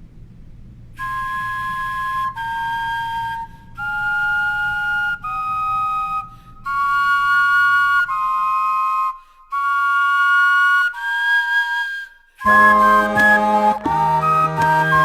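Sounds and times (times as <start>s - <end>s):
vegetable flutes playing melody: 1.0s - 15.0s.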